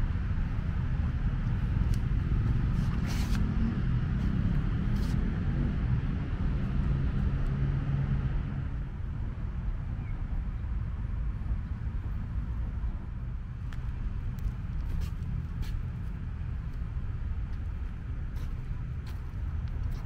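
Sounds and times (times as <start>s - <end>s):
distant road traffic rumble: 0.0s - 20.0s.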